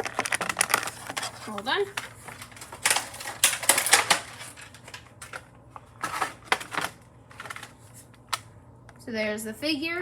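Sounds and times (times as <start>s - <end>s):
plastic packaging crackling: 0.0s - 8.4s.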